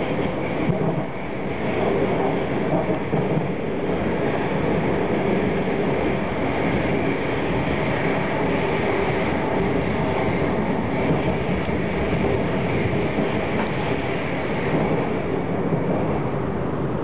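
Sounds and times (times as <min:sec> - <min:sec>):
train running on track: 0:00.0 - 0:17.0.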